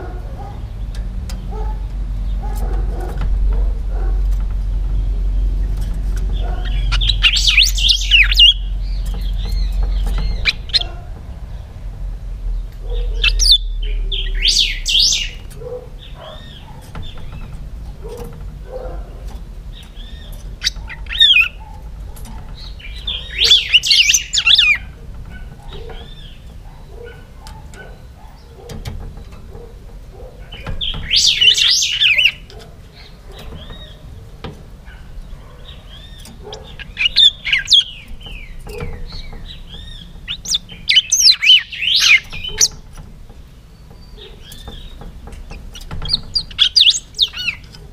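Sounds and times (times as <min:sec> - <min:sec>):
songbird singing clear phrases: 0:00.0 - 0:47.9.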